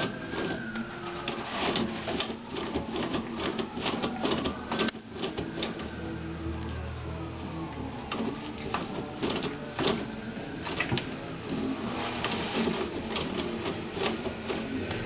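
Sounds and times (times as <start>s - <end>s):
toilet paper rustling: 0.0s - 6.2s, 8.0s - 15.0s.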